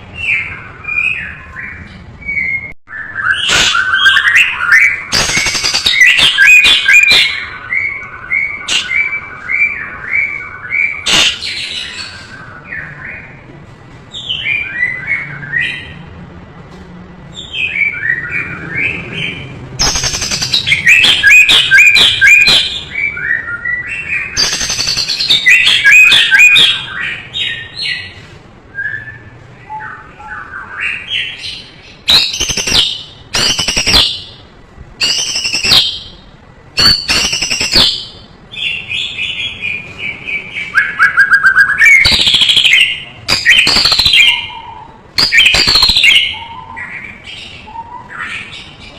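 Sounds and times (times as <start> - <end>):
songbird singing whistled phrases: 0.2 - 13.4, 17.3 - 28.1, 28.7 - 34.4, 35.0 - 36.2, 36.8 - 48.7.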